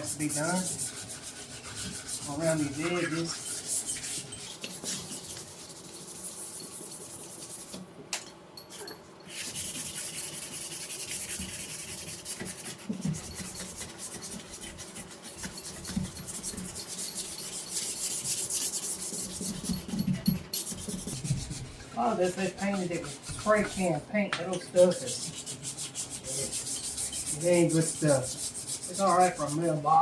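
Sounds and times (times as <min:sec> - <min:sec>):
sandpaper scraping by hand: 0:00.0 - 0:07.8, 0:09.3 - 0:20.0, 0:20.6 - 0:24.0, 0:24.7 - 0:30.0.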